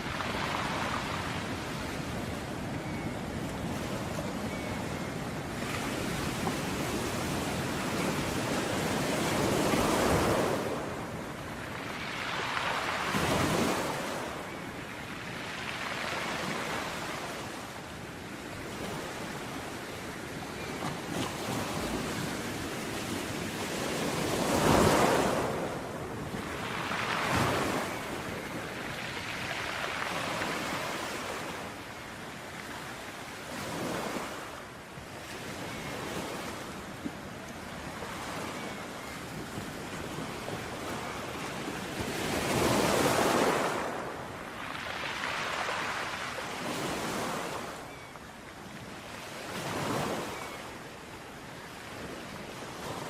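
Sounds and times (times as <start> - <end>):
sea waves breaking on beach: 0.0 - 53.0.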